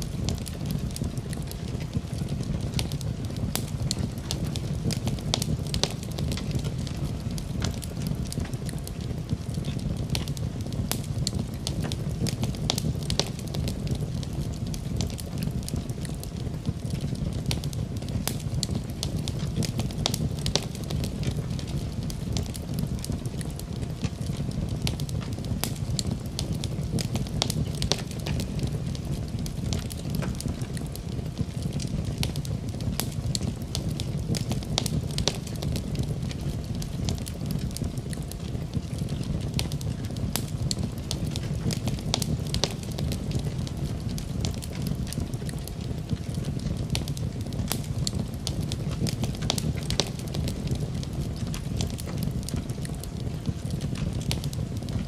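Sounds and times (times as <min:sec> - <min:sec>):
low rumble of burning logs: 0:00.0 - 0:55.0
wood fire popping and snapping: 0:00.0 - 0:55.0.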